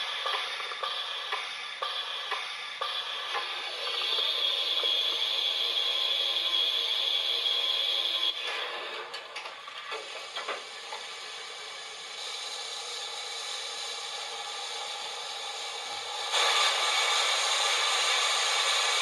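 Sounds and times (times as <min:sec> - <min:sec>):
steam hissing: 0:00.0 - 0:09.0, 0:09.9 - 0:19.0.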